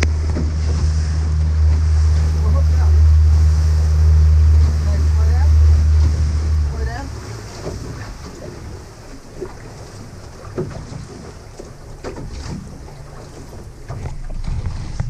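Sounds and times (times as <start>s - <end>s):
fishing boat engine rumble: 0.0s - 15.0s.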